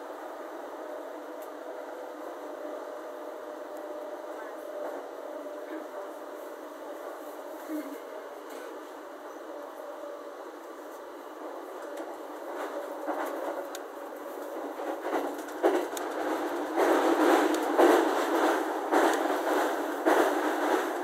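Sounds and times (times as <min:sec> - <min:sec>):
train running noise from inside: 0:00.0 - 0:21.0.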